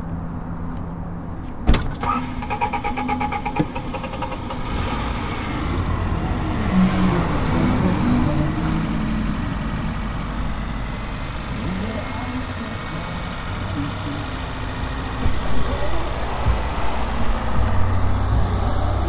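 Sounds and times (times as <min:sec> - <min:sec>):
road noise: 0:00.0 - 0:19.0
car engine running: 0:01.9 - 0:19.0.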